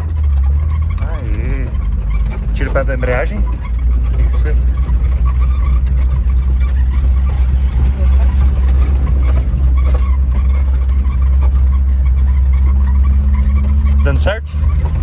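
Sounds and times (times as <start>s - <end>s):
van engine rumbling: 0.0s - 15.0s.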